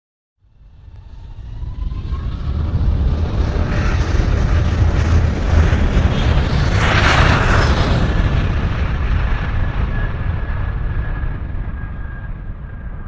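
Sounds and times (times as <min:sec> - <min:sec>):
whine rising in pitch: 0:00.4 - 0:13.0
jet engines spooling up: 0:00.6 - 0:13.0.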